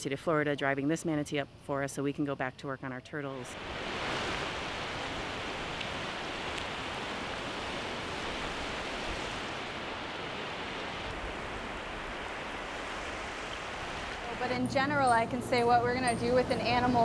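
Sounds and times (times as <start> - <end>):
beach surf ambience: 0.0 - 17.0.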